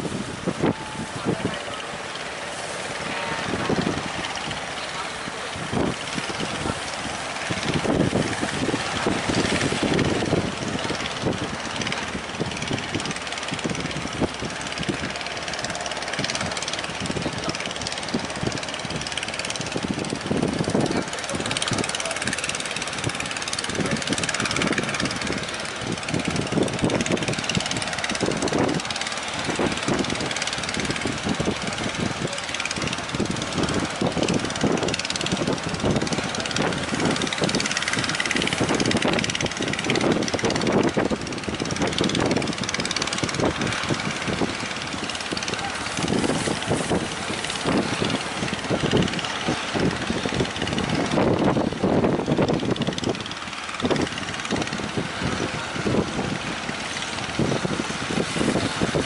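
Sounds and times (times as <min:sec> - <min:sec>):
waves breaking in surf: 0:00.0 - 0:52.6
boat engines running: 0:00.0 - 0:59.0.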